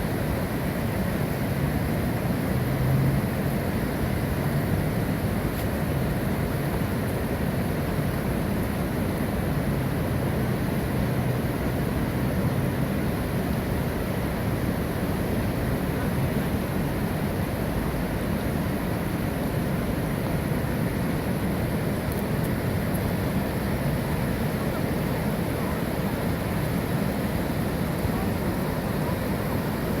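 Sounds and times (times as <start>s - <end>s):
water rushing over waterfall: 0.0s - 30.0s.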